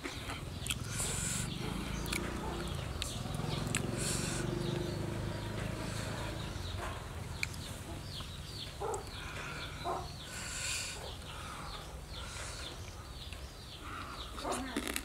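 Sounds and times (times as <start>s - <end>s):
chickens clucking: 0.0s - 14.8s
chicken calls: 0.0s - 15.0s
high little chirps: 0.6s - 15.0s.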